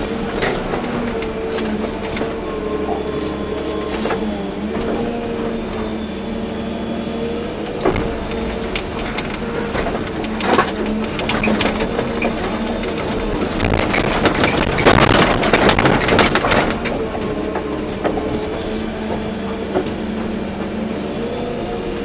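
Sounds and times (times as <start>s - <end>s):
soil and stones crunching: 0.0s - 21.0s
excavator diesel engine running: 0.0s - 22.0s.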